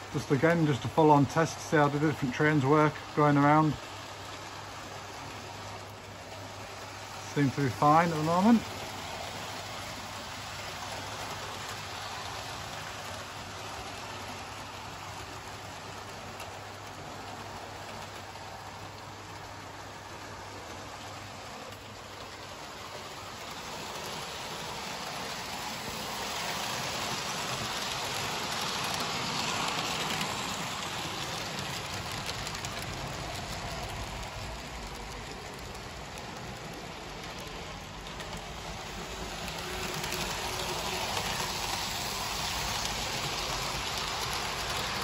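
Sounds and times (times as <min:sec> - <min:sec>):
model train wheels rattling on rails: 0:00.0 - 0:45.0.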